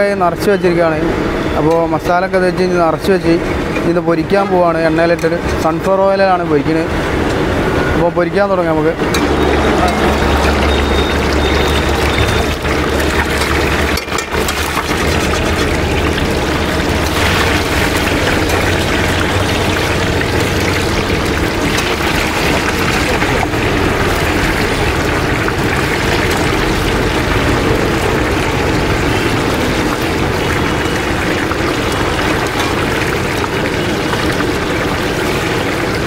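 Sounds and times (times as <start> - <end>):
food deep-frying in oil: 0.0 - 36.0.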